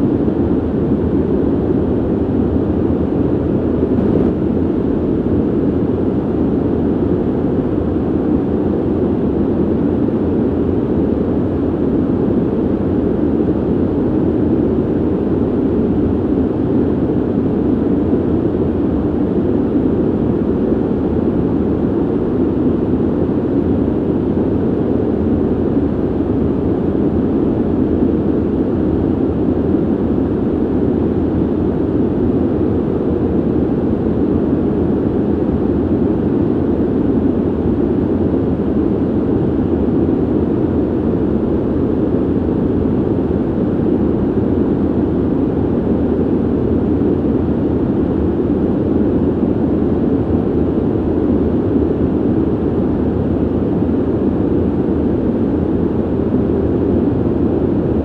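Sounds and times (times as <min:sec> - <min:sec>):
ventilation air rush: 0:00.0 - 0:58.0.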